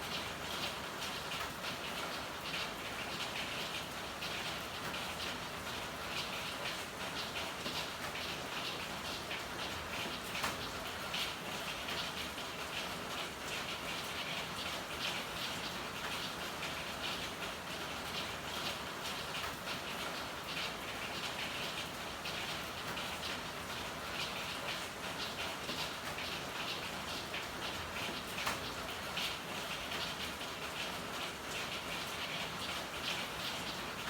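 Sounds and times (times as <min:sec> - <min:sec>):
raindrops ticking on hard surfaces: 0:00.0 - 0:34.0.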